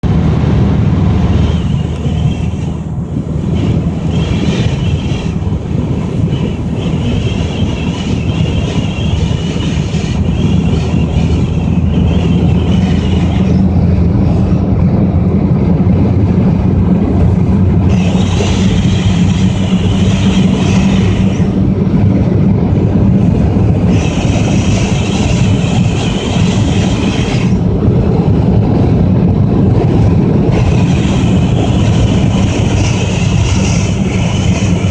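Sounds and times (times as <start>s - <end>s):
road and engine rumble: 0.0s - 34.9s
wind whistling hiss: 1.1s - 14.6s, 17.1s - 21.9s, 22.8s - 28.4s, 29.2s - 34.9s.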